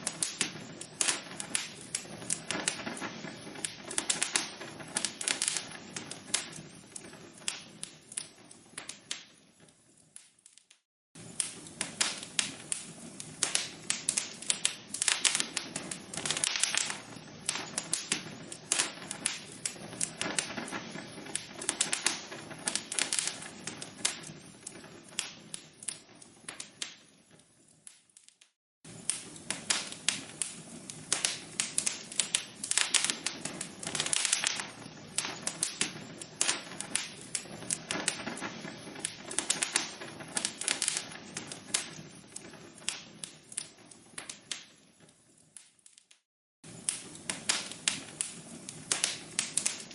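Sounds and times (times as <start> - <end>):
logs crackling in a fireplace: 0.0 - 49.9.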